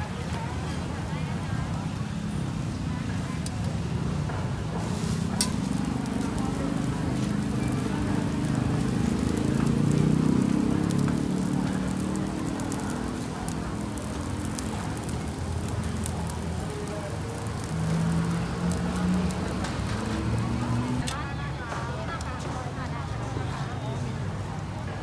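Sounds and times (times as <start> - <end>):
faint grill crackles: 0.0 - 25.0
murmur of voices: 0.0 - 25.0
traffic hum: 0.0 - 25.0.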